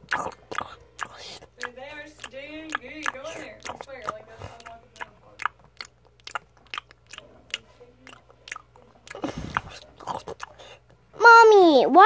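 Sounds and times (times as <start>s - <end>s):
crunchy cookie being chewed: 0.0s - 11.0s.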